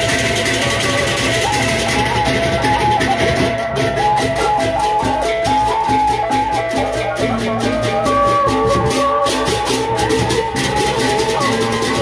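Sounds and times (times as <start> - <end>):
large barrel drums beaten: 0.0 - 12.0.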